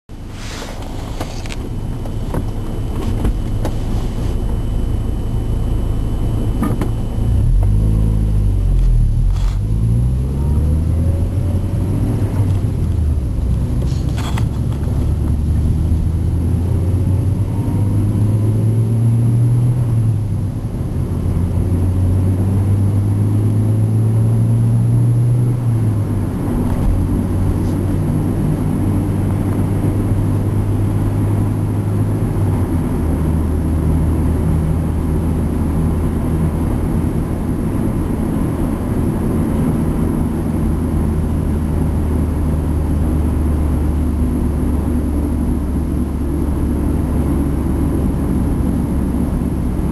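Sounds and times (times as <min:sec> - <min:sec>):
car engine droning: 0:00.1 - 0:49.9
road rumble: 0:00.1 - 0:49.9.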